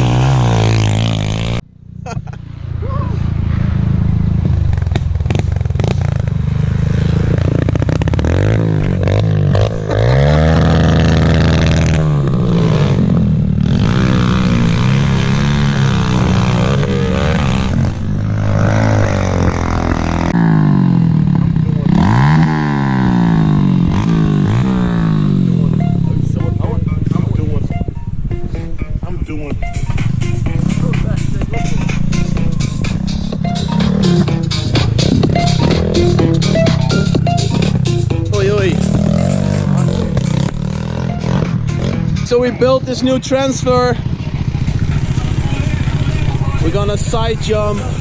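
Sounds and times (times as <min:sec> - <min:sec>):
pit bike engines revving: 0:00.0 - 0:48.0.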